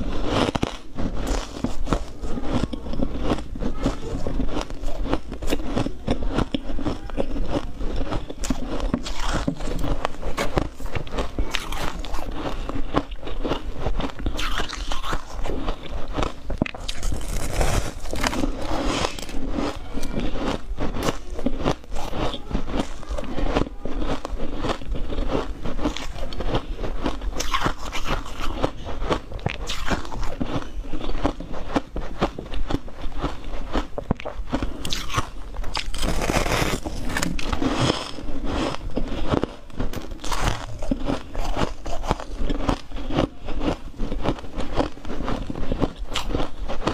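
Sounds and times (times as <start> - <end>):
person crunching ice: 0.0 - 46.9.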